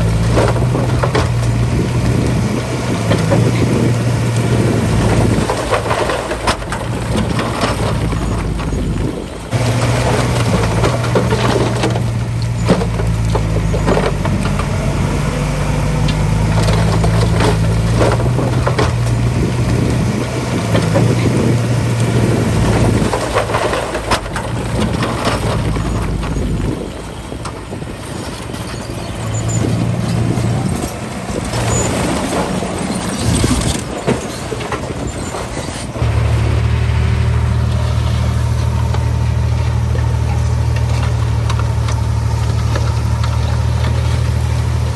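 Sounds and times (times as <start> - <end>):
bulldozer diesel engine: 0.0 - 44.9.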